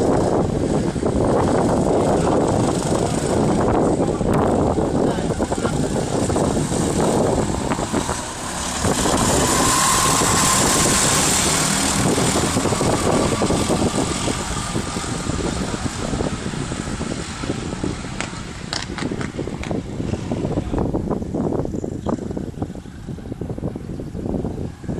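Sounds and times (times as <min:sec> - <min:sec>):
go-kart engines running: 0:00.0 - 0:24.9.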